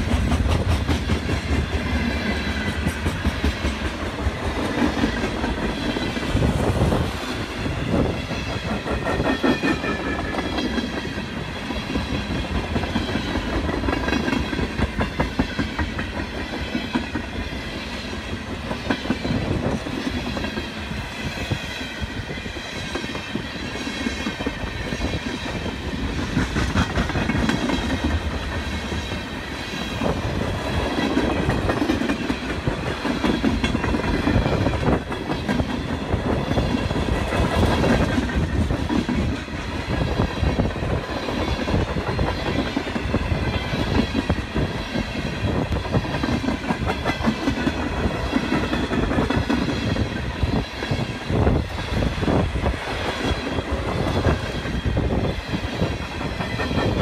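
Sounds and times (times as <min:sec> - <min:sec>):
freight train wheels clicking on rails: 0:00.0 - 0:57.0.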